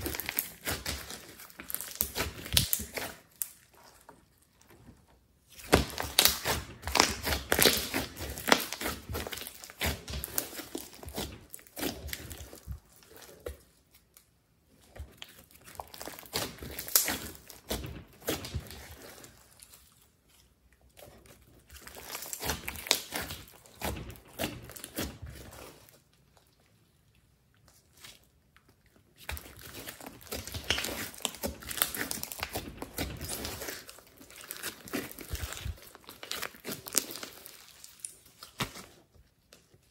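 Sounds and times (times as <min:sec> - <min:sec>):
slime crackling and popping: 0:00.0 - 0:04.4, 0:05.5 - 0:20.1, 0:21.0 - 0:26.5, 0:29.1 - 0:39.0.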